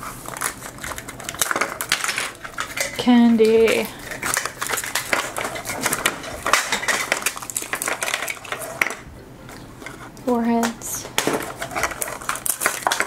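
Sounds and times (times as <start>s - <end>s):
foil wrappers crinkling: 0.0s - 13.0s
plastic capsule clicking and clattering: 0.3s - 9.0s, 10.6s - 13.0s.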